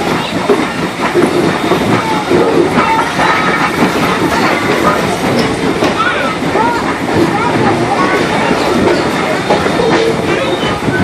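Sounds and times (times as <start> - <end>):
railroad cars rumbling: 0.0 - 11.0
train wheels clattering: 0.0 - 11.0.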